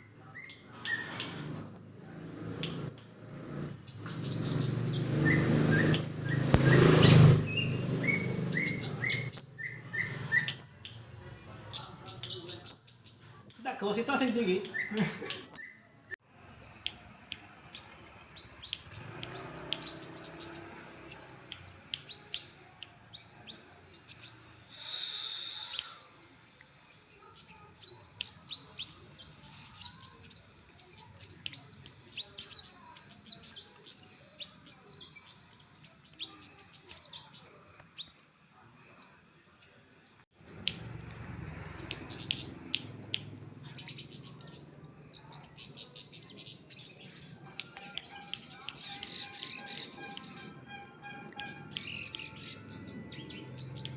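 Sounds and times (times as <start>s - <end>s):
songbird chirping: 0.0s - 53.9s.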